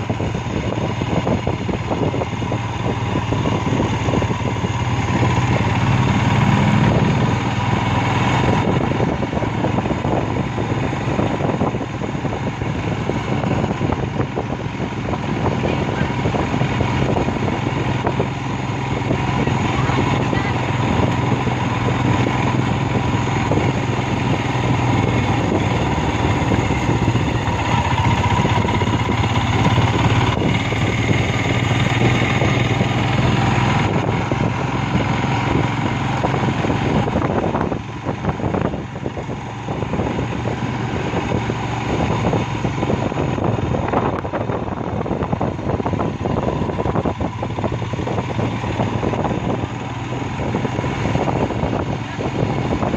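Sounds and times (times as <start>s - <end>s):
motorcycle engine humming: 0.0s - 52.9s
wind and road noise: 0.0s - 52.9s.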